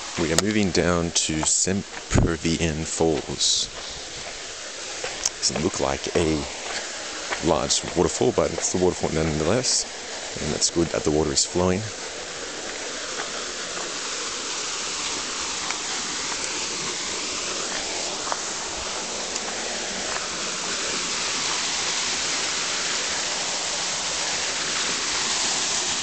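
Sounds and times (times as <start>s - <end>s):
small waterfall rushing: 0.0s - 26.0s.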